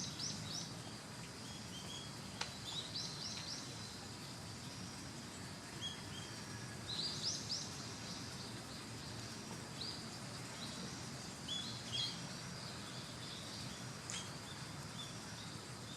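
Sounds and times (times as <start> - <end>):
steady background hiss: 0.0 - 15.9.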